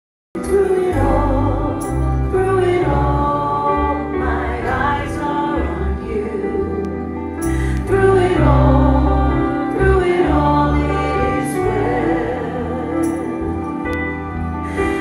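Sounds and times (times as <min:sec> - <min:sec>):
woman singing into a microphone: 0:00.4 - 0:13.6
bass line accompaniment: 0:00.4 - 0:15.0.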